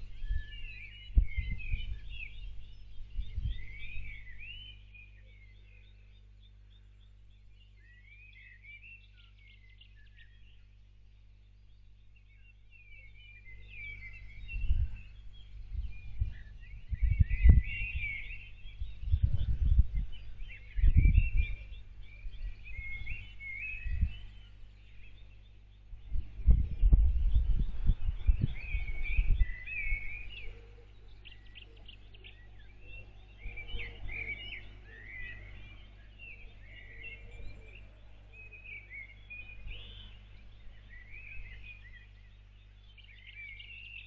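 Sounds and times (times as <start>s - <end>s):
birds chirping and singing: 0.0s - 44.0s
steady low hum: 0.0s - 44.0s.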